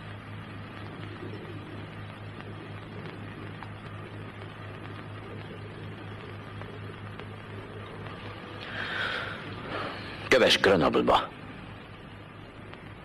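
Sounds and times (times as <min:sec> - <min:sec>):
film soundtrack hiss: 0:00.0 - 0:13.0
low electrical hum: 0:00.0 - 0:13.0.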